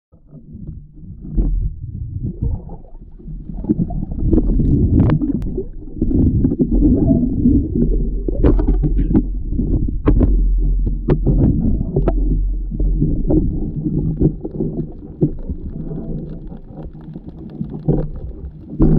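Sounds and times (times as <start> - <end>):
muffled underwater water rumble: 0.1 - 18.9.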